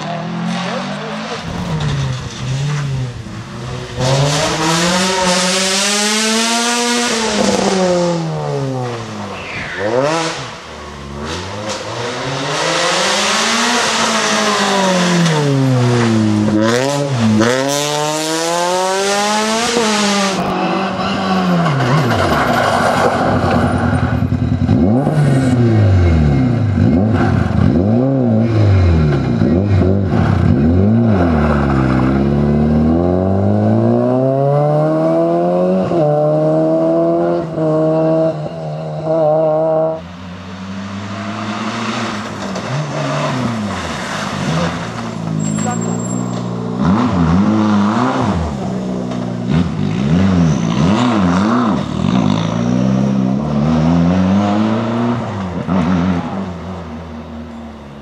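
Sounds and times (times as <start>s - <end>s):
rally car engine revving: 0.0s - 58.0s
tyre and road noise: 0.0s - 58.0s.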